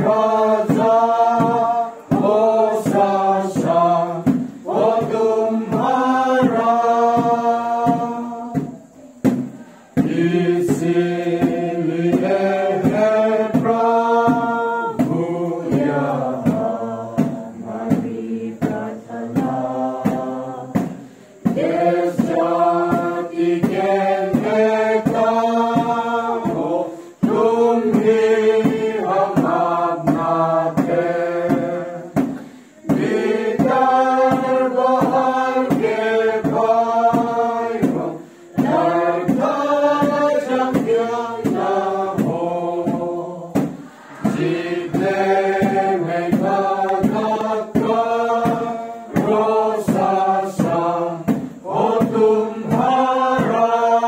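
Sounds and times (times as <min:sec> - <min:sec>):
children singing together: 0:00.0 - 0:54.0.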